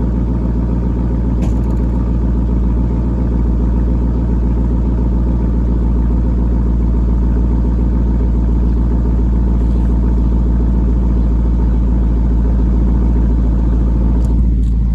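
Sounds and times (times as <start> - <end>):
car exhaust idling: 0.0 - 14.9.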